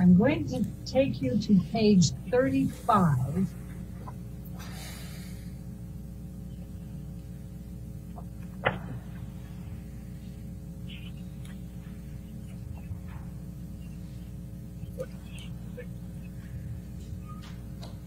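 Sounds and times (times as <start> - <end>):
low hum with background noise: 0.0 - 18.0.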